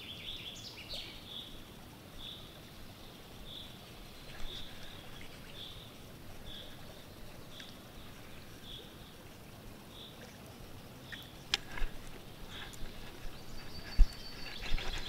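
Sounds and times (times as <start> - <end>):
running water murmur: 0.0 - 15.0
light water splashing: 0.8 - 15.0.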